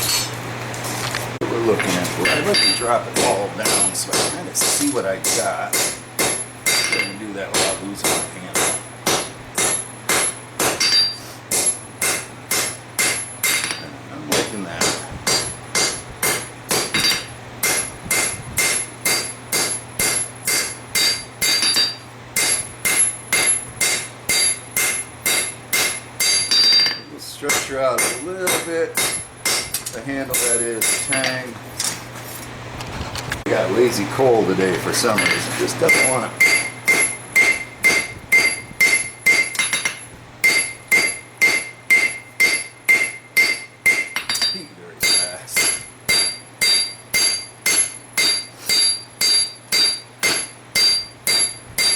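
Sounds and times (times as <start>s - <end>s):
hammer striking steel on anvil: 1.8s - 31.5s, 35.0s - 51.9s.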